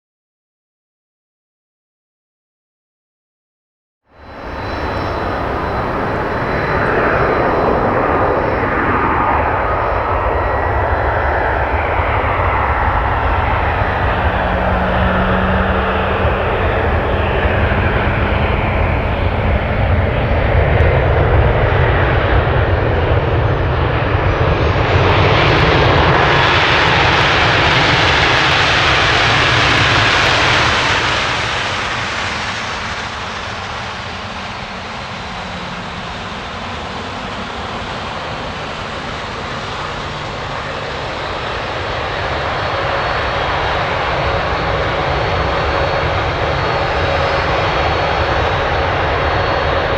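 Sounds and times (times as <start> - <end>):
jet engines roaring: 4.2 - 49.9.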